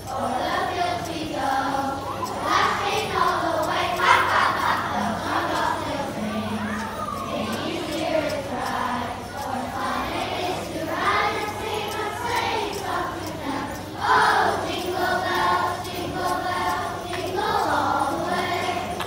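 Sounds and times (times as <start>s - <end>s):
children singing in a choir: 0.0s - 19.0s.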